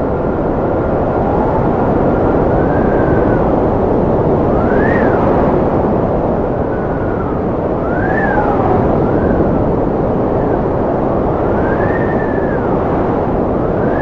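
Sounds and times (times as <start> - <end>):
strong wind rushing: 0.0 - 14.0
wind whistling howl: 0.0 - 14.0.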